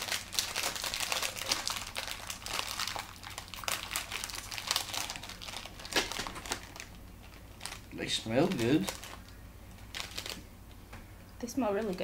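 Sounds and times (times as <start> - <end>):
plastic snack packet crinkling: 0.0 - 10.5.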